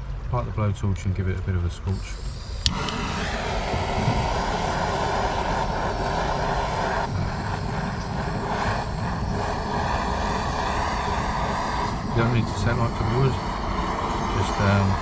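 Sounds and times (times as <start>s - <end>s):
blowtorch flame hissing: 1.7s - 15.0s.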